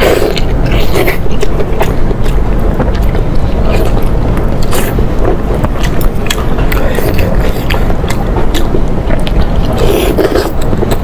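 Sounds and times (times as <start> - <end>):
chewing and biting: 0.0 - 11.0
steady low rumble: 0.0 - 11.0.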